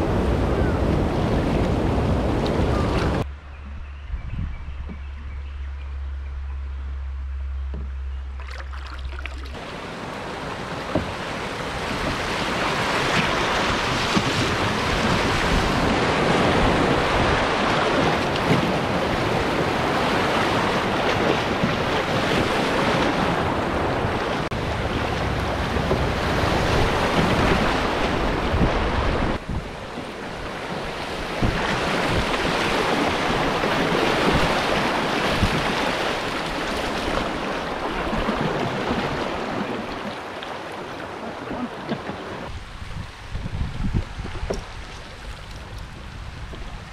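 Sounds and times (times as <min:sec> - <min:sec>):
wind rumble on microphone: 0:00.0 - 0:08.3, 0:09.5 - 0:40.0, 0:41.3 - 0:46.9.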